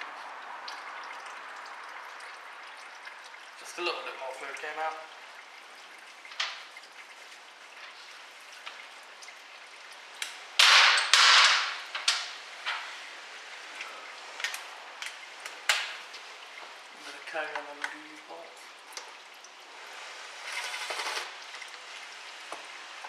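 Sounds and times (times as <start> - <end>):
fluid dripping into pan: 0.0 - 19.6
steady fluid trickle: 0.0 - 23.0.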